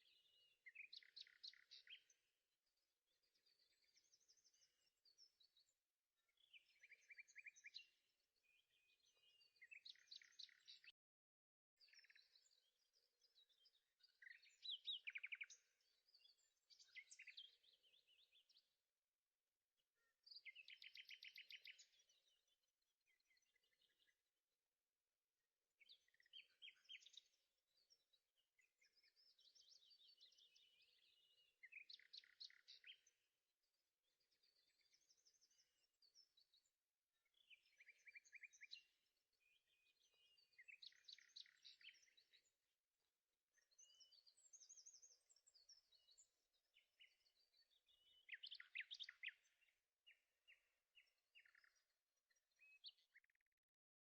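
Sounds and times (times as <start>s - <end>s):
songbird chirps and trills: 0.0s - 54.0s.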